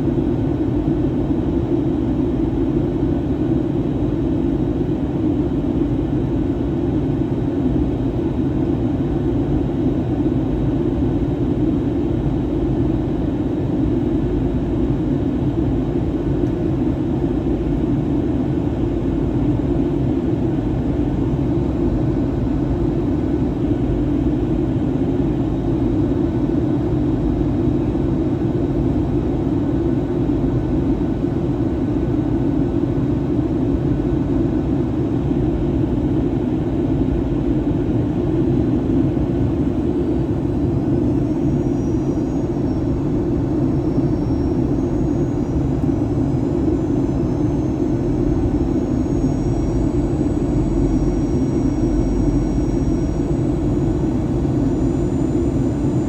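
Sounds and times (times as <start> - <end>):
aircraft cabin engine roar: 0.0 - 56.0.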